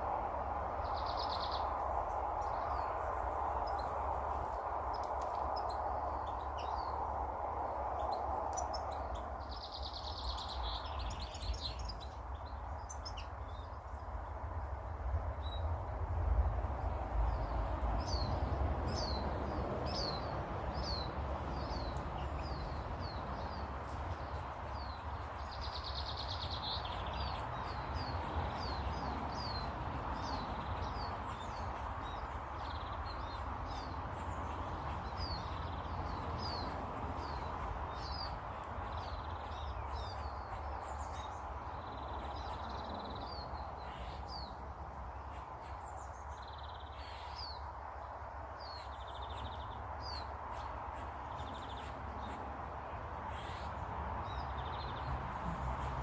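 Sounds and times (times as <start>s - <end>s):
small birds chirping: 0.8s - 56.0s.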